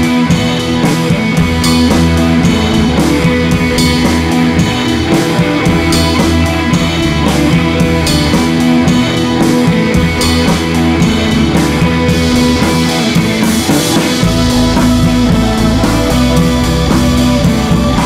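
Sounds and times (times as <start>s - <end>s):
rock music with guitar and drums: 0.0s - 18.0s.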